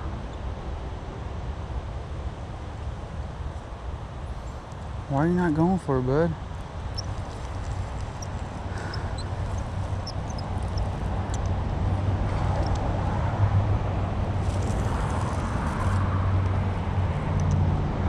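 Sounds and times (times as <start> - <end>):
highway traffic rumble: 0.0 - 18.0.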